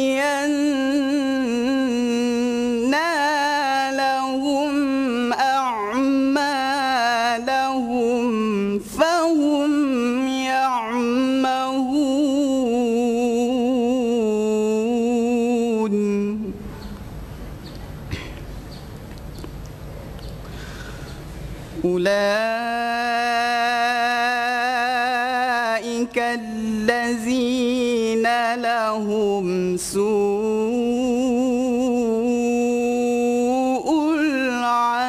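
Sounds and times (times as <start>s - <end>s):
male voice reciting melodically: 0.0s - 17.0s, 21.8s - 35.0s.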